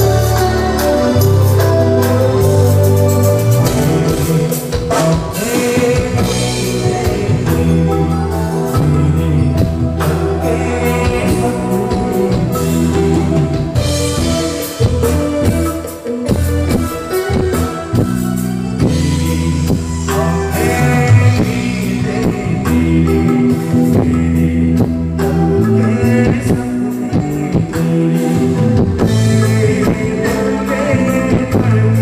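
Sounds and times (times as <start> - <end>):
lead singer on microphone: 0.0 - 32.0
live band playing amplified music: 0.0 - 32.0.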